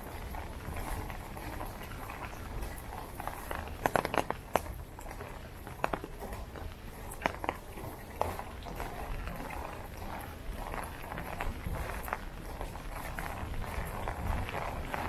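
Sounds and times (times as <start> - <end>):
raindrops tapping wet pavement: 0.0 - 15.0.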